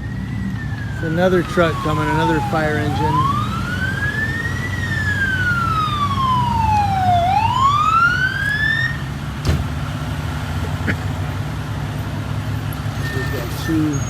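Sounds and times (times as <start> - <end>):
fire engine siren wailing: 0.0 - 14.0
heavy engine rumble: 0.0 - 14.0.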